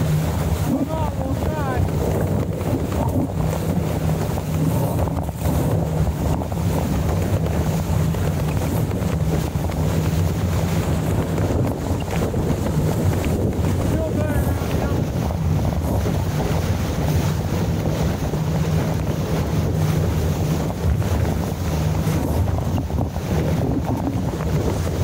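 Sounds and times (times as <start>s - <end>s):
water rushing past hull: 0.0s - 25.0s
wind buffeting microphone: 0.0s - 25.0s.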